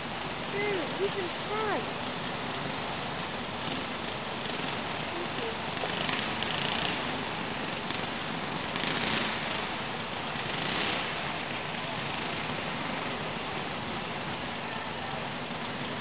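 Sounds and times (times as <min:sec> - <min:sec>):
kart engines droning: 0:00.0 - 0:16.0.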